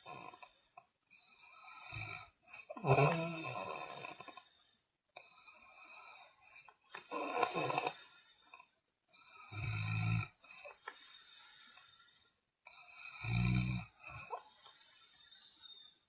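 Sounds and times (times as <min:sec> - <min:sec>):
person snoring: 0:00.0 - 0:16.0.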